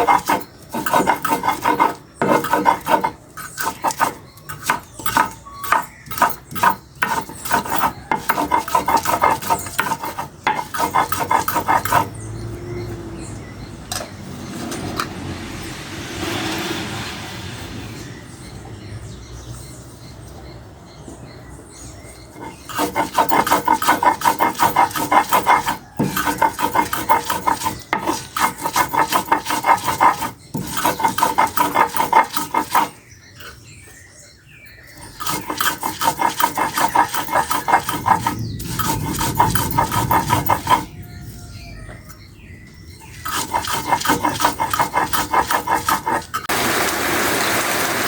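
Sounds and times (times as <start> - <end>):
coconut scraping by hand: 0.0 - 12.6, 14.0 - 17.3, 22.3 - 42.2, 42.9 - 48.0.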